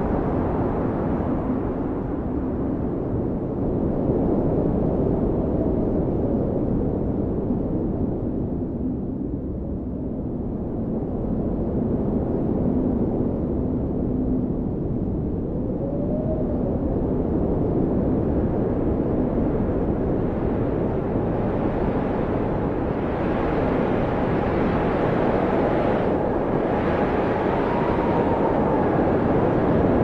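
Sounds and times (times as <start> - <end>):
blizzard wind blowing hard: 0.0 - 30.0
faint howling wind tone: 0.0 - 30.0.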